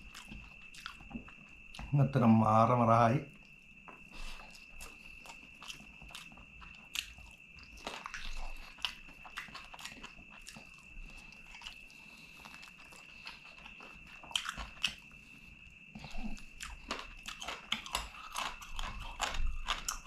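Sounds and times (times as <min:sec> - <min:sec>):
chewing and biting: 0:00.0 - 0:01.8, 0:03.4 - 0:20.0.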